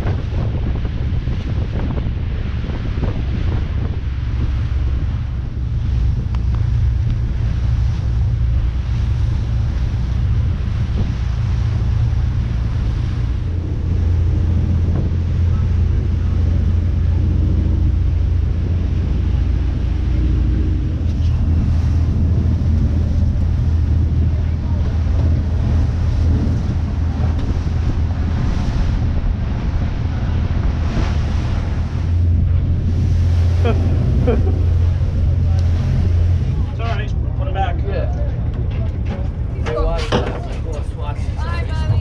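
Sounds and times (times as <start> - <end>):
wind buffeting microphone: 0.0 - 42.0
low drone: 0.7 - 39.6.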